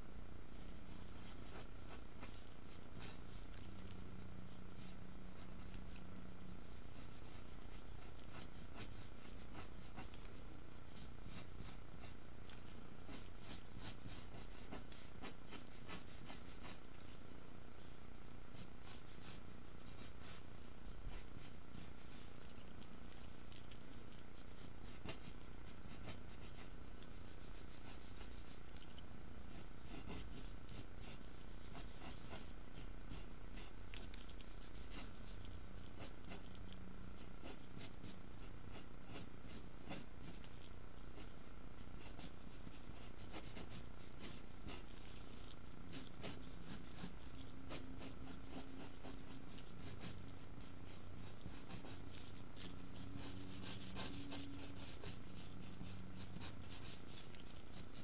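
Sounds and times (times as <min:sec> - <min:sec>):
pencil scratching on paper: 0:00.0 - 0:17.2, 0:17.8 - 0:58.0
faint high-pitched whine: 0:00.0 - 0:58.0.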